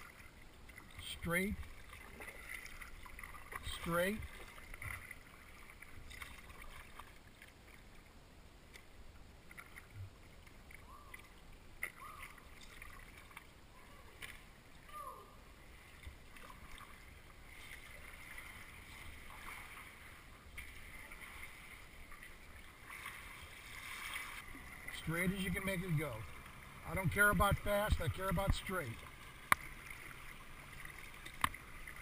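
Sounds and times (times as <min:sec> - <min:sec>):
faint kayak paddle strokes: 0:00.0 - 0:32.0
water lapping against hull: 0:00.0 - 0:32.0.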